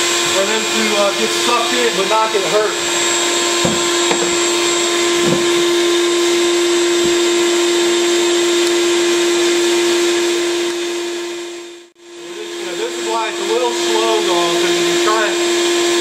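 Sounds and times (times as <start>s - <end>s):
vacuum motor humming: 0.0s - 16.0s.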